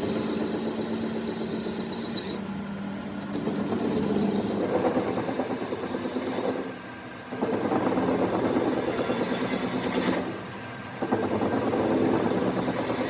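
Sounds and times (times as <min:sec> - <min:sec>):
lathe cutting tool squealing: 0:00.0 - 0:02.5, 0:03.2 - 0:06.8, 0:07.4 - 0:10.4, 0:11.1 - 0:13.0.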